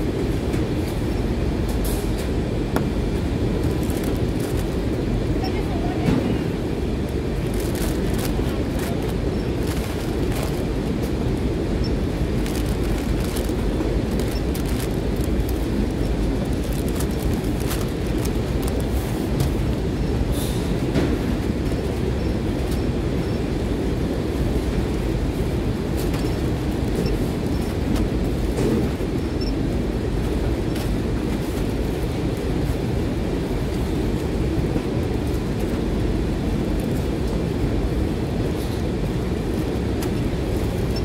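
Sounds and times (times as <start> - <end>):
warehouse machinery rumble: 0.0 - 41.0.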